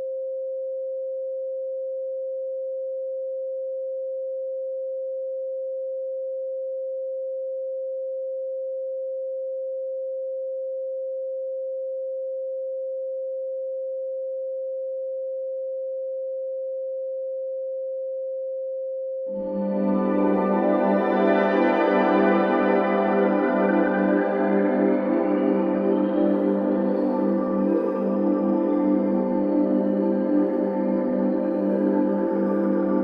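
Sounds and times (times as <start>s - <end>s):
pure sine tone: 0.0s - 33.0s.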